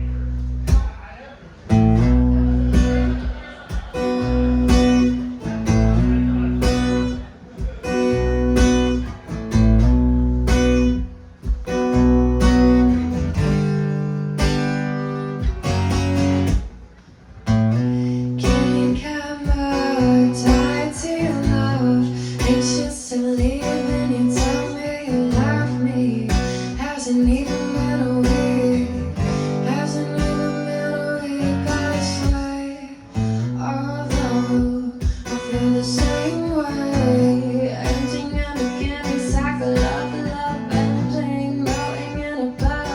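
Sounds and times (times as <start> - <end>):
live music with strummed acoustic guitar: 0.0 - 42.9.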